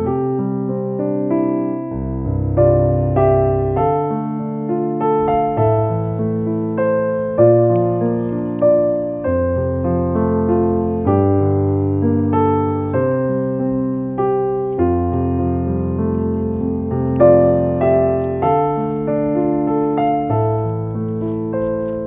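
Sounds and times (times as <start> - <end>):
slow soft piano music: 0.0 - 22.0.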